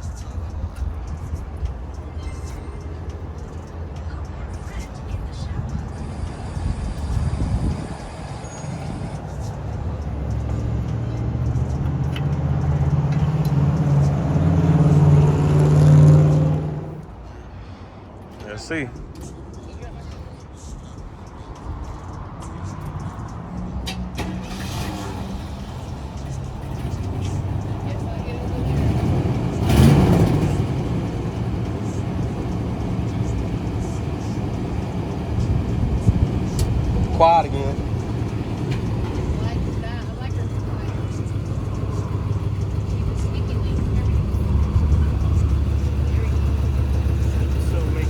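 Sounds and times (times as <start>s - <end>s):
vehicle engine running: 0.0s - 17.2s, 20.6s - 48.0s.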